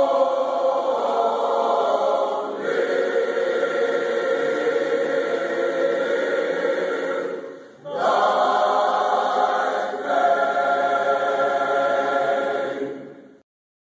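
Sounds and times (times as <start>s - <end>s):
choir singing held chords: 0.0s - 13.4s.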